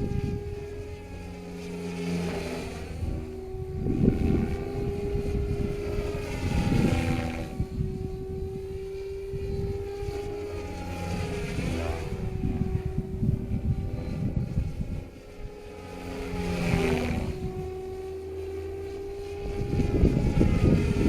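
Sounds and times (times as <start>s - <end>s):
wind buffeting microphone: 0.0s - 1.4s, 2.1s - 21.0s
rc helicopter rotor humming: 0.0s - 21.0s.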